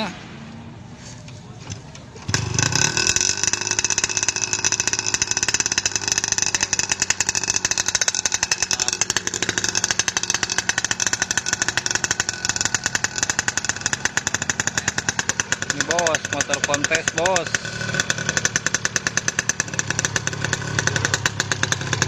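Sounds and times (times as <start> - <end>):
two-stroke motorcycle engine running: 2.2 - 22.0.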